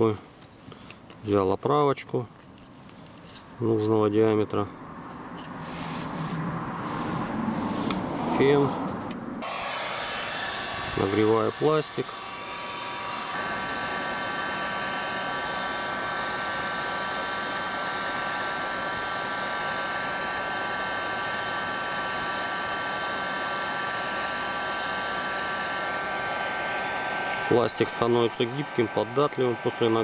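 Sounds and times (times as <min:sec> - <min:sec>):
hot-air blower rushing and whining: 0:05.5 - 0:30.0.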